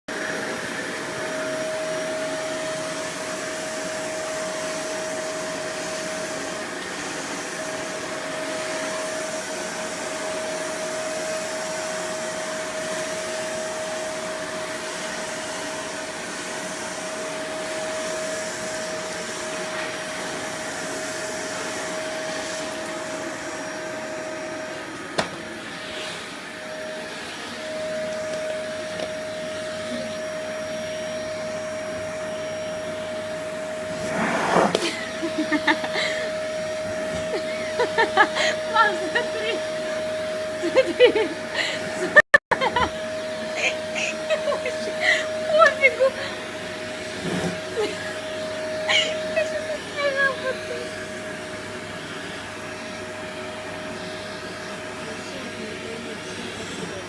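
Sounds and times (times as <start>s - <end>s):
vacuum cleaner running: 0.1s - 57.0s.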